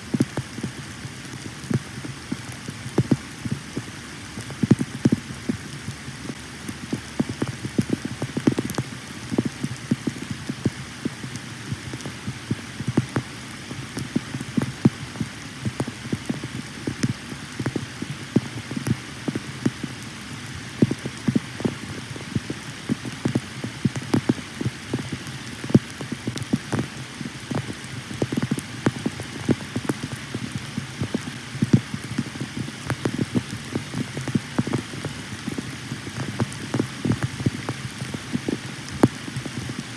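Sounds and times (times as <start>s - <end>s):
rain falling: 0.0s - 39.9s
raindrop taps: 0.2s - 5.7s, 6.3s - 19.9s, 20.8s - 39.9s.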